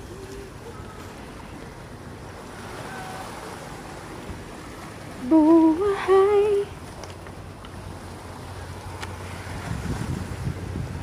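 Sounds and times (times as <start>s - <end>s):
wind and sea hiss: 0.0s - 11.0s.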